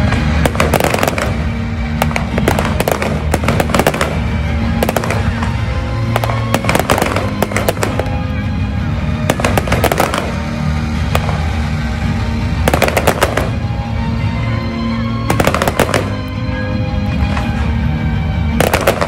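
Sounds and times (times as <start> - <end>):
fireworks bangs: 0.0 - 14.2, 15.2 - 16.5, 18.5 - 19.0
music: 0.0 - 19.0.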